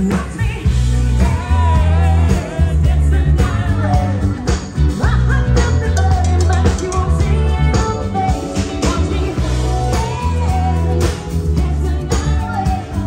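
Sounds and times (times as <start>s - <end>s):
heavy bass line: 0.0s - 13.0s
live band playing dance music: 0.0s - 13.0s.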